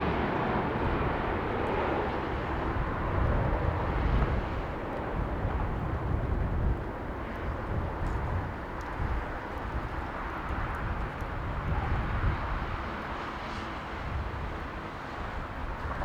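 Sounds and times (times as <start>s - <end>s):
airliner engines rushing: 0.0s - 16.0s
wind buffeting microphone: 0.0s - 16.0s.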